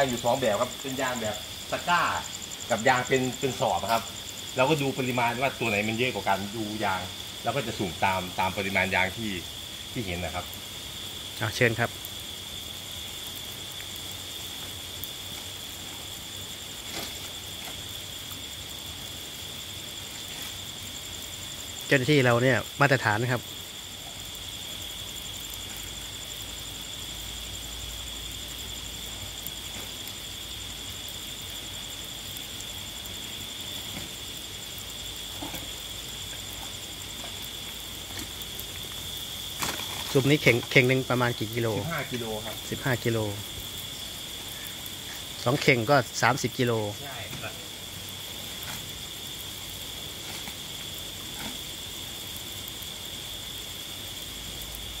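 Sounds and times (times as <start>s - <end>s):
crickets trilling: 0.0s - 55.0s
insects chirring: 0.0s - 55.0s
low even hiss: 0.0s - 55.0s.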